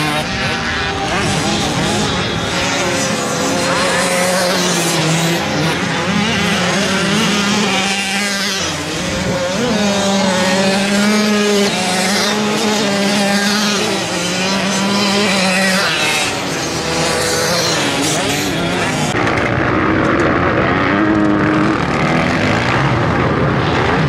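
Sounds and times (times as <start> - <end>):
motocross bikes racing: 0.0 - 24.0.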